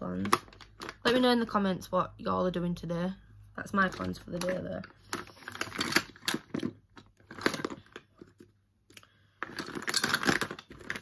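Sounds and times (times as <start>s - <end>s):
plastic makeup items clattering: 0.0s - 1.6s, 3.6s - 11.0s.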